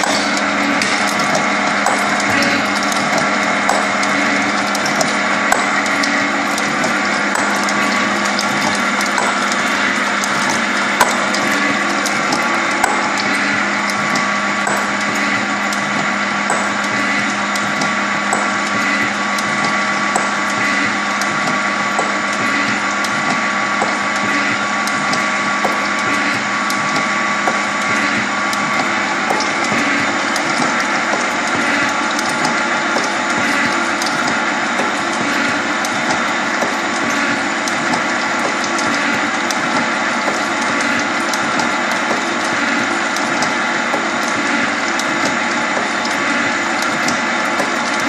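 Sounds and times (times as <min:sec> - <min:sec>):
machine hum: 0:00.0 - 0:48.0
sharp mechanical ticks: 0:00.0 - 0:48.0.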